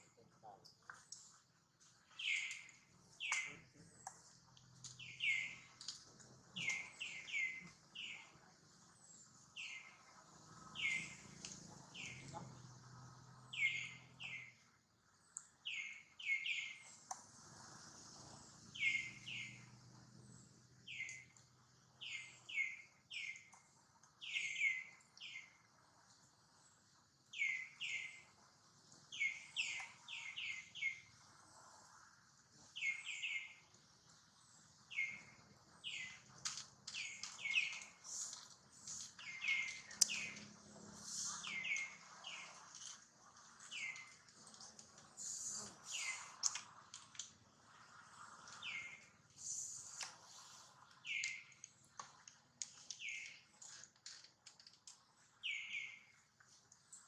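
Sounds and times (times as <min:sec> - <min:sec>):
faint high hiss: 0:02.1 - 0:14.6, 0:15.2 - 0:23.6, 0:24.2 - 0:51.9.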